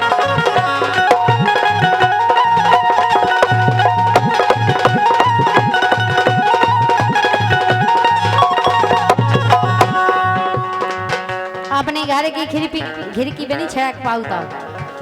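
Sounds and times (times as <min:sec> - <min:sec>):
folk melody: 0:00.0 - 0:15.0
hand drum beat: 0:00.0 - 0:15.0.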